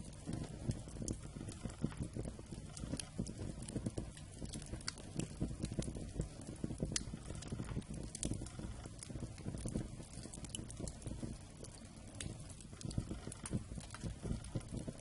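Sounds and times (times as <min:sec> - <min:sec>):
campfire crackling: 0:00.0 - 0:15.0
sharp fire pops: 0:00.0 - 0:15.0.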